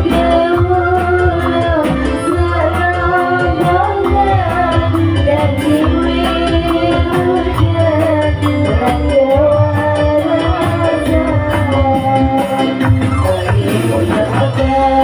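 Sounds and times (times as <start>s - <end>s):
loud music with singing voice: 0.0s - 15.0s.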